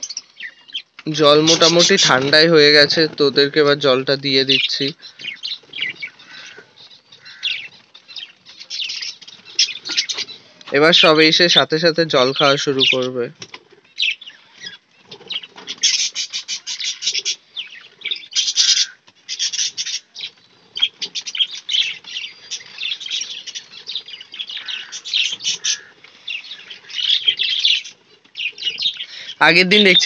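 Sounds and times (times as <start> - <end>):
caged birds chirping and chattering: 0.0 - 30.0.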